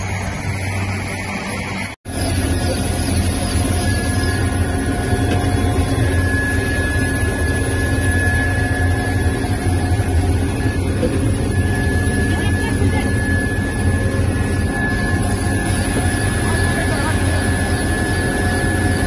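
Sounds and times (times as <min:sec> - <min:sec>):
helicopter engines and rotor: 0:00.0 - 0:19.0.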